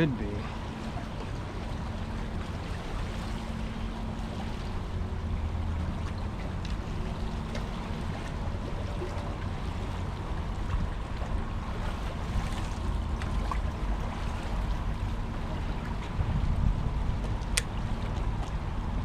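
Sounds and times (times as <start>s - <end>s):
steady low rumble: 0.0s - 19.0s
water lapping against kayak hull: 0.0s - 19.0s.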